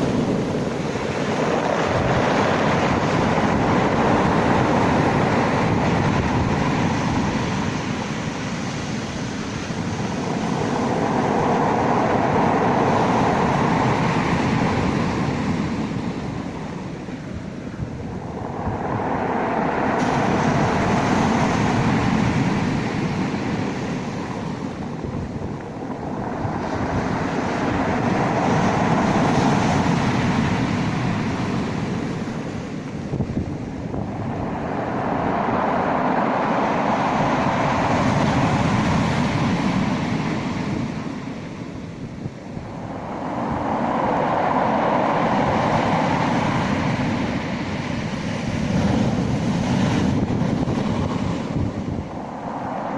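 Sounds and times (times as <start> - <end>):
sea waves washing in: 0.0 - 52.9.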